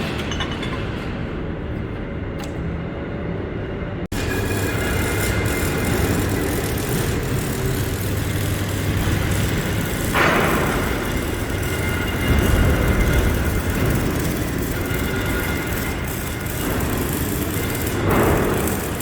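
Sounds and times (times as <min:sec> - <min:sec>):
heavy machinery rumbling: 0:00.0 - 0:19.0.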